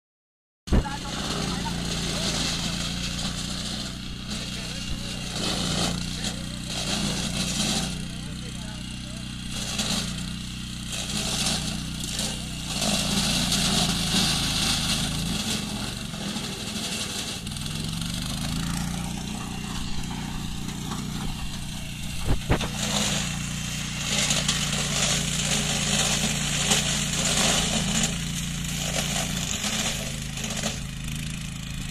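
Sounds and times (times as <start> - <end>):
harvester engine running: 0.8 - 31.9.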